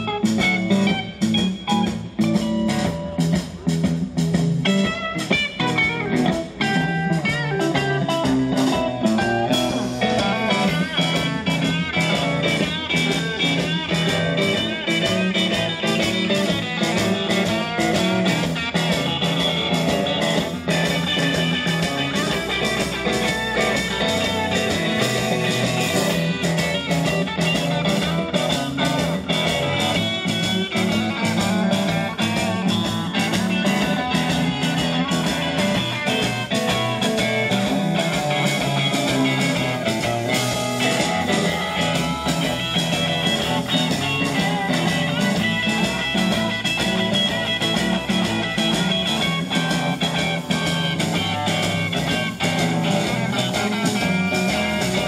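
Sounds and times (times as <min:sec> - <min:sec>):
blues-rock band playing: 0:00.0 - 0:55.0
drum beats: 0:00.0 - 0:55.0.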